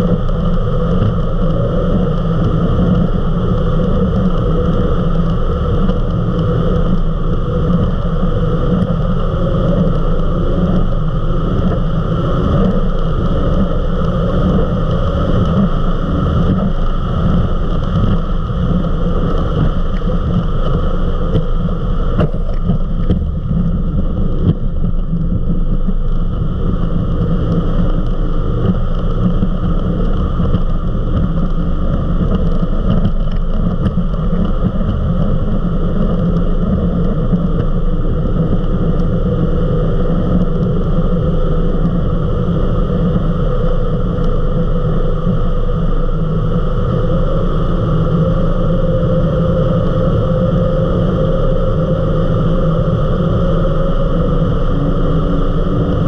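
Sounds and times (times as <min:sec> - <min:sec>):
powerboat engine running: 0:00.0 - 0:56.0
rush of wind and water: 0:00.0 - 0:56.0.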